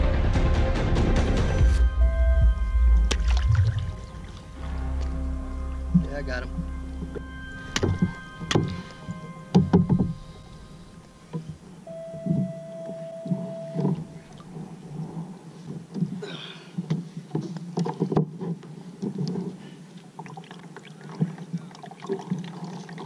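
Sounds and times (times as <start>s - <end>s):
water sloshing against hull: 2.1s - 23.0s.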